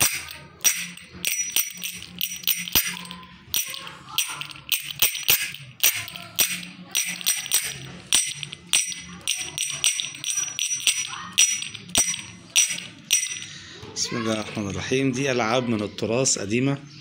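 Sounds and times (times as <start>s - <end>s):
metal discs clinking: 0.0s - 14.6s.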